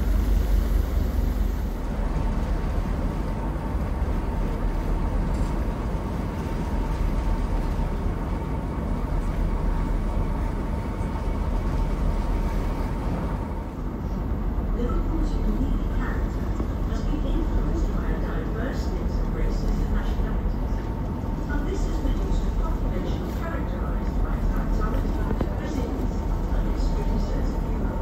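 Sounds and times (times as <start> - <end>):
faint steady hum: 0.0 - 28.0
low rumble: 0.0 - 28.0.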